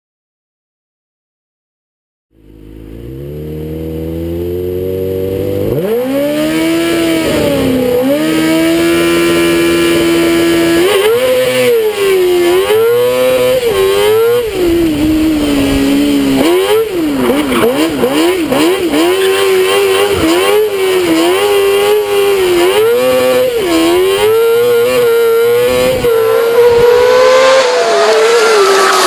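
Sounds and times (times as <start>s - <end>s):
buggy engine revving: 2.3s - 29.0s.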